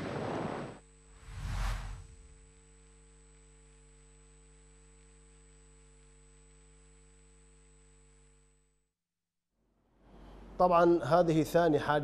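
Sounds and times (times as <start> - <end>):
faint electrical hum: 0.0 - 8.8, 9.6 - 12.0.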